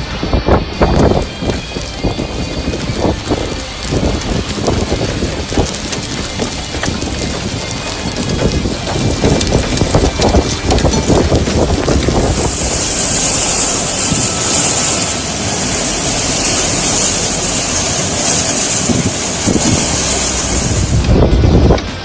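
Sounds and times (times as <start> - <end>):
storm wind and heavy rain: 0.0 - 22.0
wind buffeting microphone: 0.0 - 22.0.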